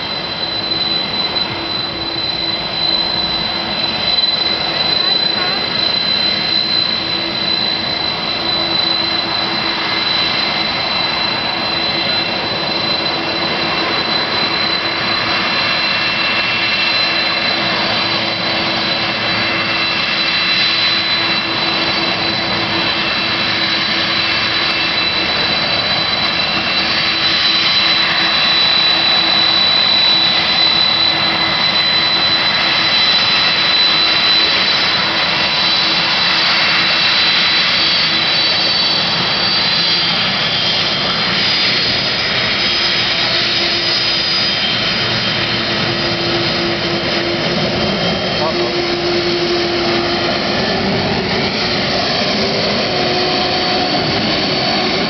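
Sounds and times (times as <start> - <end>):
jet engines roaring with whine: 0.0 - 55.0.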